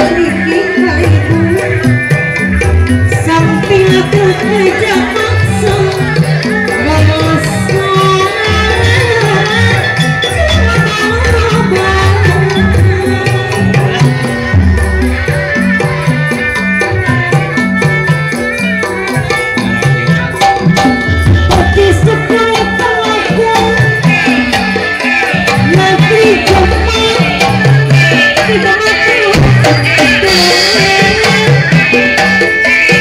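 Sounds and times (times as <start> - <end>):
gamelan music: 0.0 - 33.0
hand drums beating: 0.0 - 33.0.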